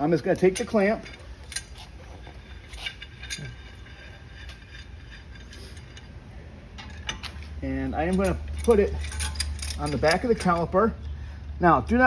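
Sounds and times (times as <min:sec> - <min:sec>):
metal clamp clinking: 0:00.0 - 0:10.8
steady low hum: 0:00.0 - 0:12.0.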